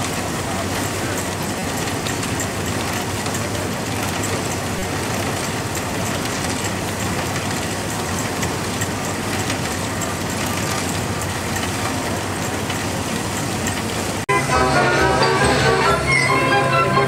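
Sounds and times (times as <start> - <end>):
threshing machine running: 0.0 - 16.0.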